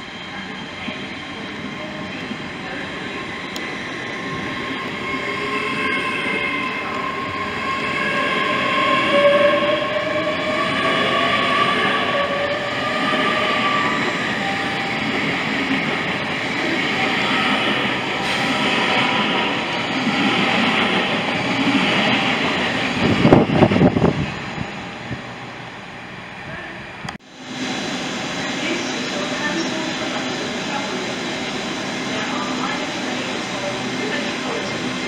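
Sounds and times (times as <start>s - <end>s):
train traction whine: 0.0s - 35.0s
train wheels rumbling on rails: 0.0s - 35.0s.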